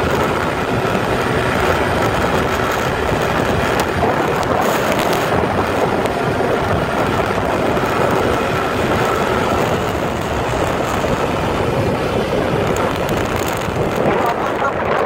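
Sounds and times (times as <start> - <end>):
motorcycle engine running hard: 0.0 - 15.0
wind and road noise: 0.0 - 15.0.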